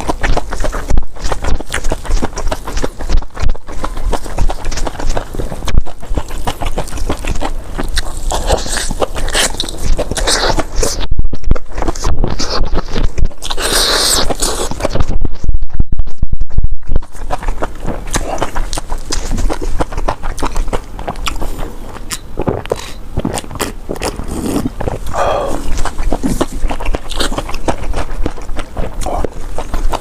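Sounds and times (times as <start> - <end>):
wet chewing mouth clicks: 0.0 - 15.5, 16.5 - 30.0.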